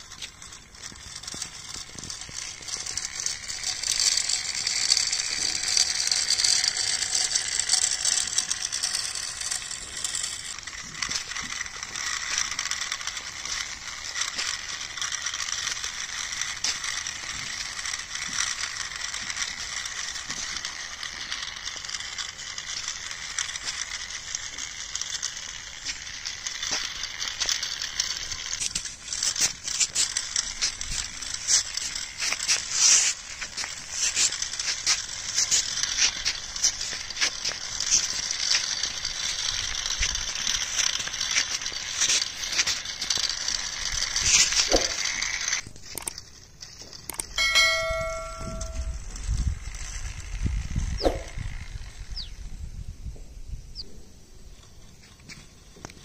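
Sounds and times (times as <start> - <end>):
toy wheels rattling on grit: 0.0 - 56.0.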